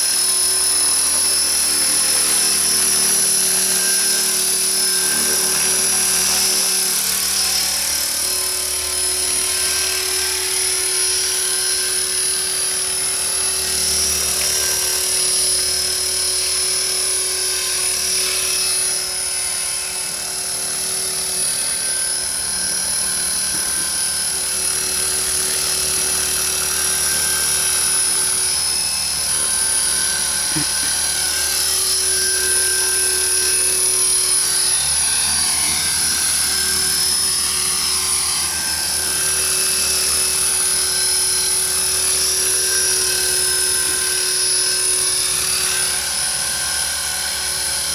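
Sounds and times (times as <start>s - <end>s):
model helicopter rotor whine: 0.0s - 47.9s.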